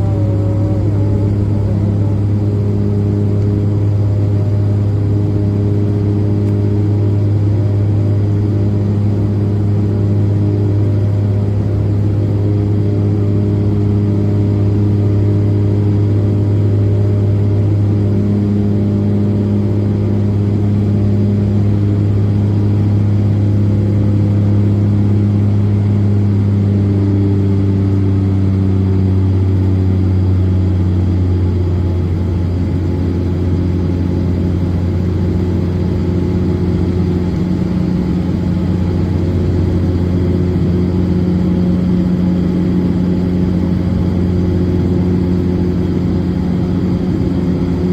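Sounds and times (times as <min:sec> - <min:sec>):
turboprop cabin drone: 0:00.0 - 0:47.9.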